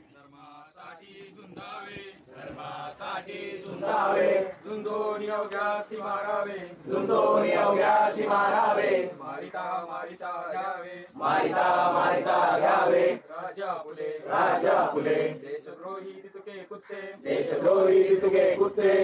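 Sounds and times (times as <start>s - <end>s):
group of voices chanting: 0.7s - 16.1s, 16.8s - 19.0s.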